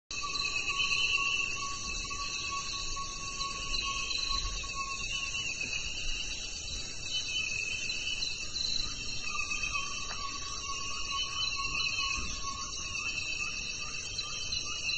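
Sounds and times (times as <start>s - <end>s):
insects trilling: 0.1s - 14.9s
lower-pitched insect trill: 0.1s - 14.9s.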